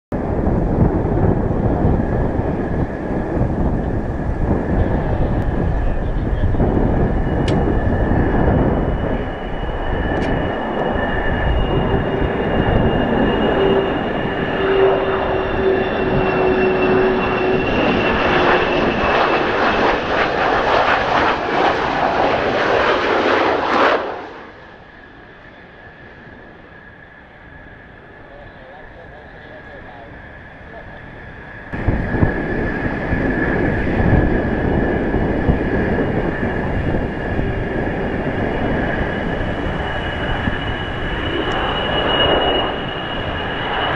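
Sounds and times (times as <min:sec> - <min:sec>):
wind buffeting microphone: 0:00.1 - 0:25.0, 0:30.4 - 0:43.9
jet engines whining: 0:00.2 - 0:43.9.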